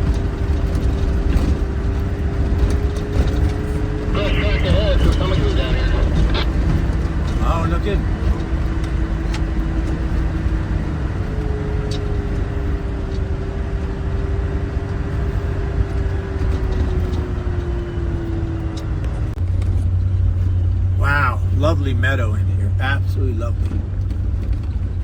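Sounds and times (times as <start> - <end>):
drivetrain whine: 0.0 - 25.0
off-road vehicle engine rumble: 0.0 - 25.0.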